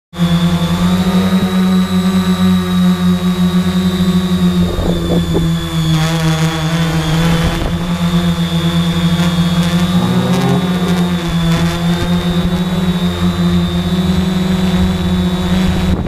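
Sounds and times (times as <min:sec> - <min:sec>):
drone motors buzzing: 0:00.1 - 0:16.0.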